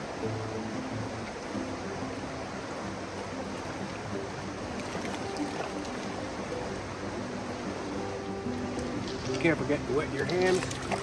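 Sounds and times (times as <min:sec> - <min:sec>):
river water rushing over stones: 0:00.0 - 0:11.0.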